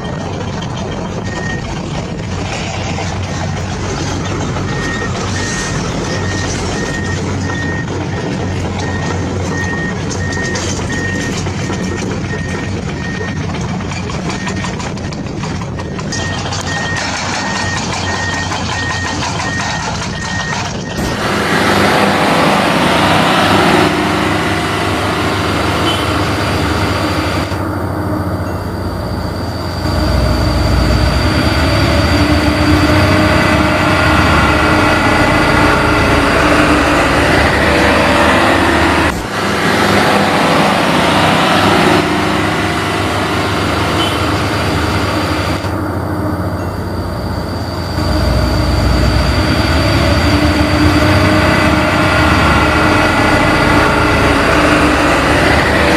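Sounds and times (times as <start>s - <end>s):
reversing alarm beeping: 0.0s - 2.2s, 4.3s - 55.9s
heavy truck engine and machinery: 0.0s - 55.9s.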